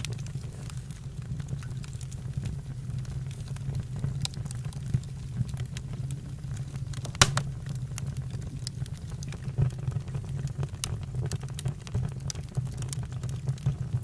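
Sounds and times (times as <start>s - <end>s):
campfire crackling: 0.0s - 14.0s
fire rumbling: 0.0s - 14.0s.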